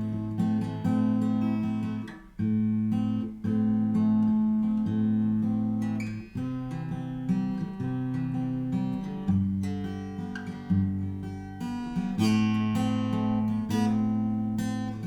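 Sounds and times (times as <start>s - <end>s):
acoustic guitar chords ringing: 0.0s - 15.0s.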